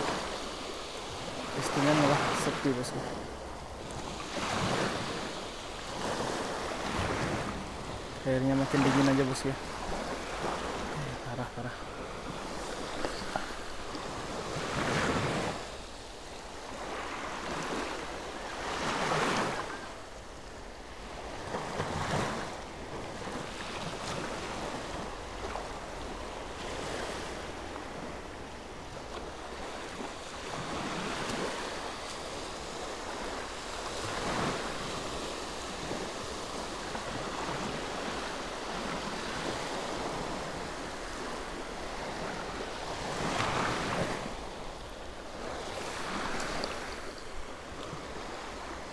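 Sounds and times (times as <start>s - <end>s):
sea waves washing: 0.0s - 48.9s.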